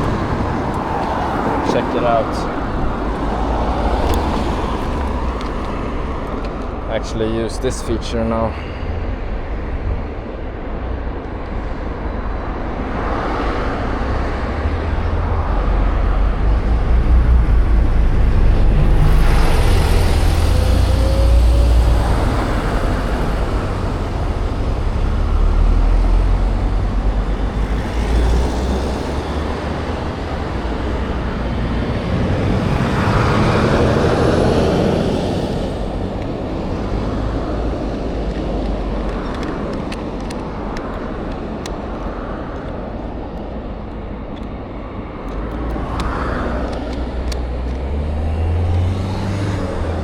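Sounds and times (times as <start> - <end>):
road traffic noise: 0.0 - 50.0
wind rumbling on microphone: 0.0 - 50.0.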